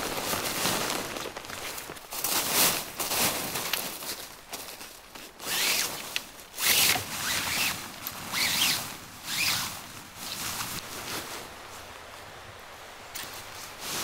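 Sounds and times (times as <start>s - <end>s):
tent fabric rustling over snow: 0.0s - 14.0s.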